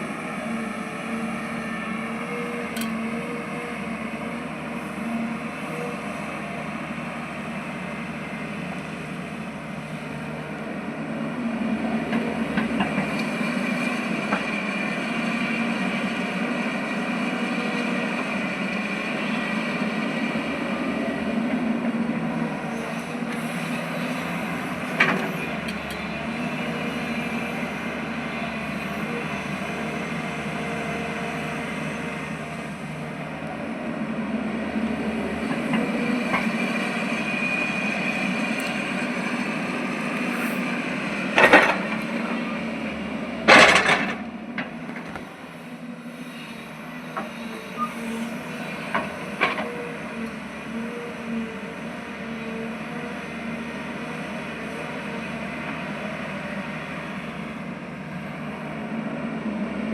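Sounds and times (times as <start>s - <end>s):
earthmover diesel engine running: 0.0s - 59.9s.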